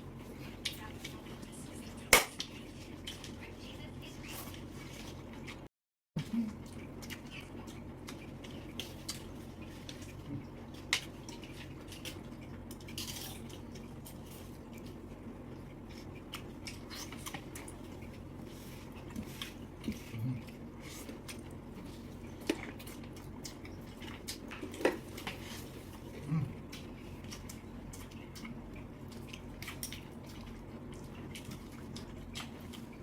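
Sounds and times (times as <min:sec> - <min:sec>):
low steady hum: 0:00.0 - 0:33.0
chewing and cracking shells: 0:06.5 - 0:33.0.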